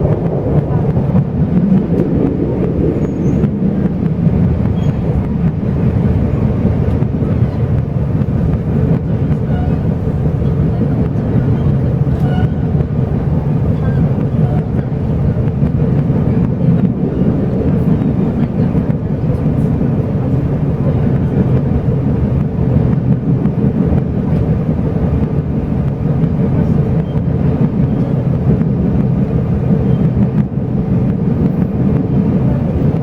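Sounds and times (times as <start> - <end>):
train wheels running on rails: 0.0 - 33.0.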